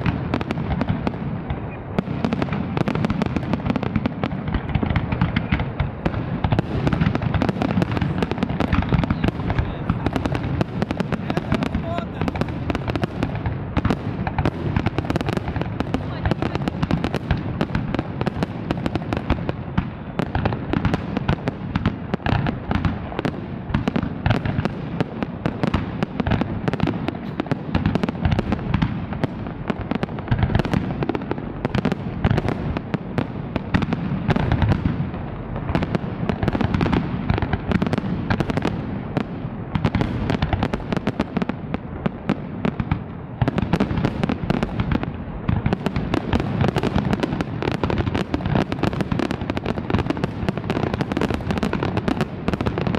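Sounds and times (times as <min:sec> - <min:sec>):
fireworks bursting and crackling: 0:00.0 - 0:52.9.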